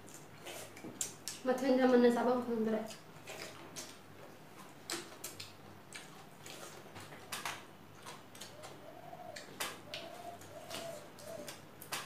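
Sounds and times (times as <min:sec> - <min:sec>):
mouths chewing wetly: 0:00.0 - 0:02.0, 0:02.6 - 0:12.0.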